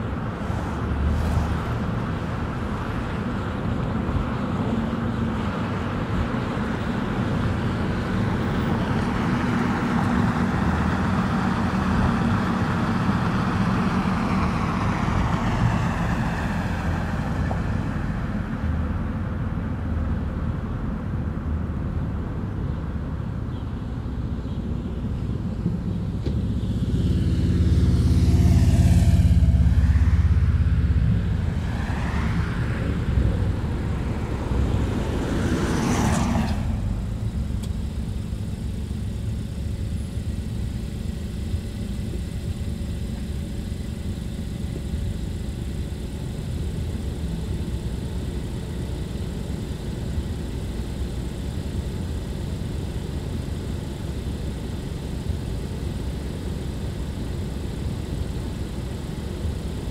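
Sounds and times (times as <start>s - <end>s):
car tyre and engine hum: 0.0s - 59.9s.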